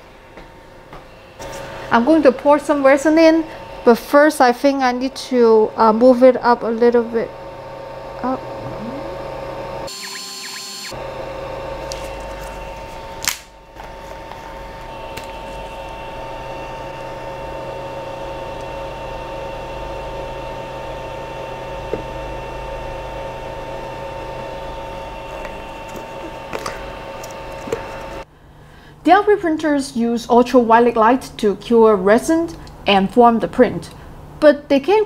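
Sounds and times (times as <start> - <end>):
printer motor hum and whine: 0.0 - 28.3.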